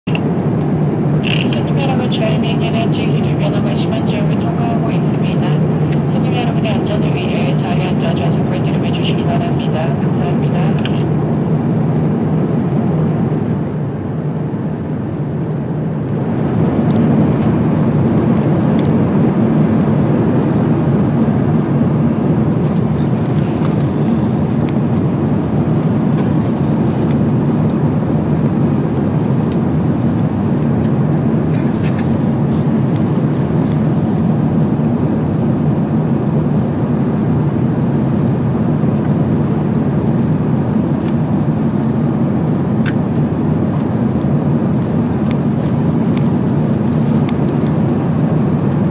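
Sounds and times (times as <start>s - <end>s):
airliner cabin noise: 0.1s - 48.9s.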